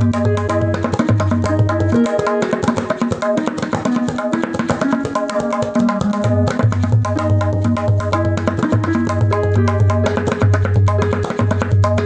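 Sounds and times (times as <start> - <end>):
melodic line: 0.0 - 12.0
tabla playing quick rhythm: 0.0 - 12.0.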